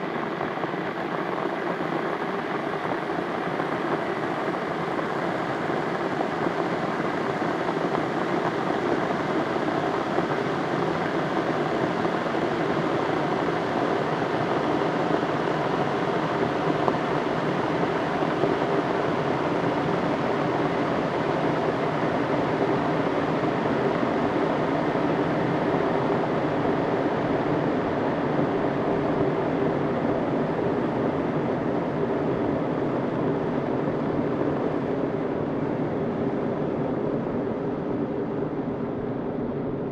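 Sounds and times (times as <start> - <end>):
kettle boiling water: 0.0 - 39.9.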